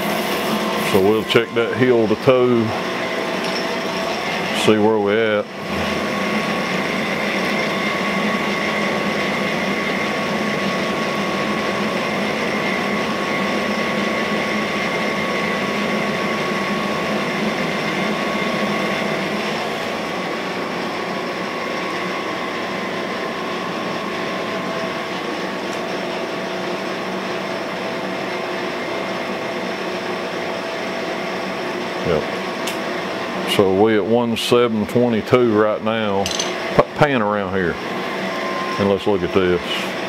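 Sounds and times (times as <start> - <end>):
grinder humming and whining: 0.0 - 40.0.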